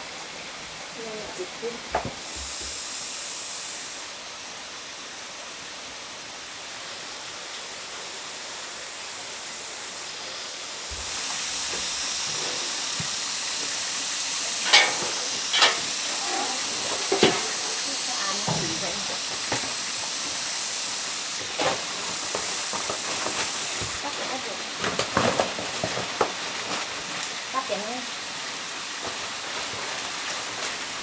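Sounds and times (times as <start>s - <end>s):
steady hissing noise: 0.0s - 31.0s.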